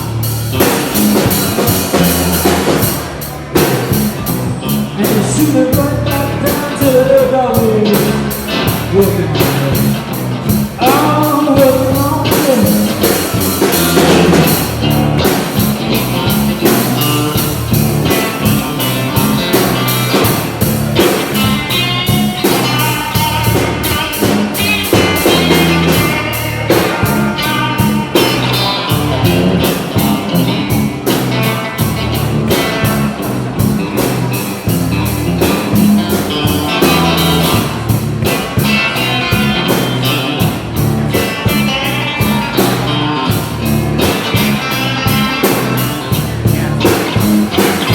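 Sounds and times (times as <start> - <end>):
bass guitar: 0.0 - 47.9
electric guitar lead: 0.0 - 47.9
steady drum beat: 0.0 - 47.9.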